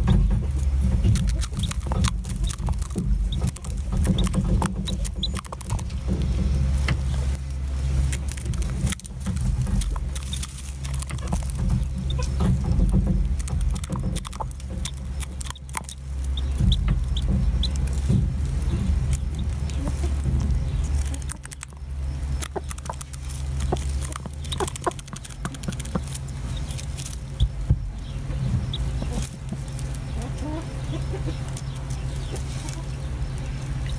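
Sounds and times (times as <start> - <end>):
hen pecking taps: 0.0 - 7.3, 8.1 - 32.8
chick peeping: 0.0 - 33.9
steady low rumble: 0.0 - 33.9
straw rustling: 0.0 - 33.9.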